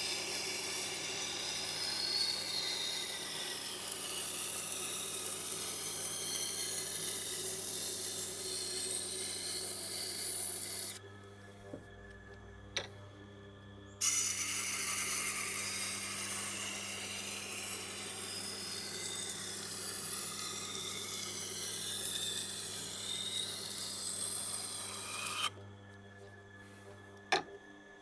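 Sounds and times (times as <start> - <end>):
knife grinding on wheel: 0.0 - 11.0, 14.0 - 25.5
sharpener motor humming: 0.0 - 11.0, 14.0 - 25.6.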